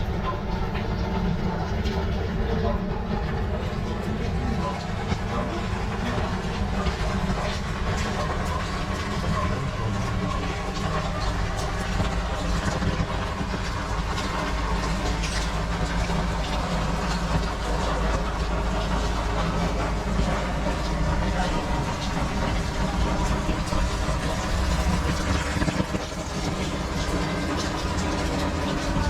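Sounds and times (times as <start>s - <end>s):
continuous low rumble: 0.0s - 29.0s
water drips ticking: 0.0s - 29.0s
rain hissing: 4.3s - 29.0s.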